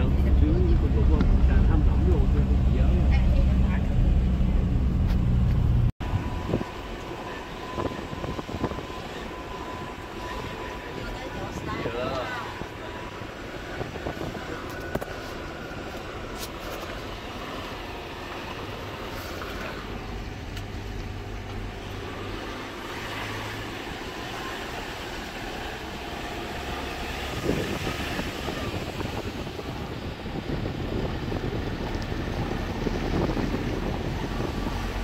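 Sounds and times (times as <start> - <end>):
outdoor noise: 0.0 - 35.0
vehicle engine humming: 0.0 - 35.0.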